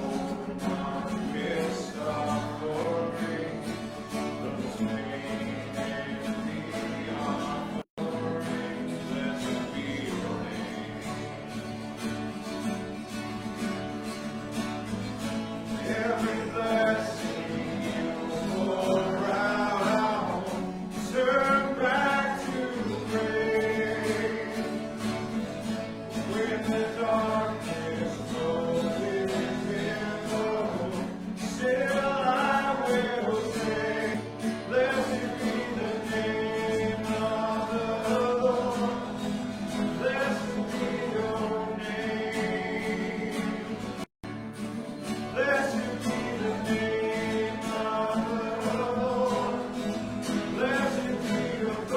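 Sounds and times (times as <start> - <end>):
congregation singing: 0.0 - 51.9
guitar-led band: 0.0 - 51.9.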